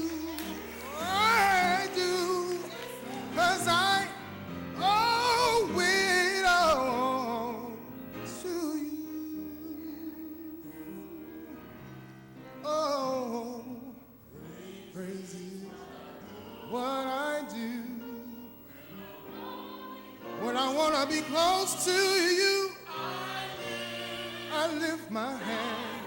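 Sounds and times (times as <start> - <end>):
solo voice singing gospel: 0.0 - 26.0.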